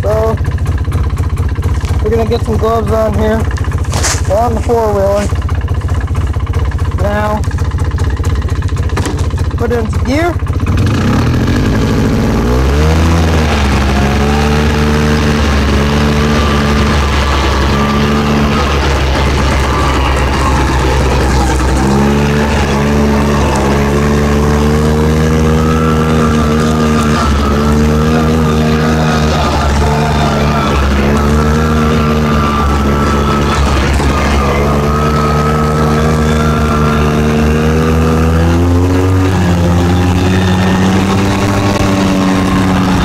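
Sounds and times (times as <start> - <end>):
atv engine pulling away: 0.0 - 43.0.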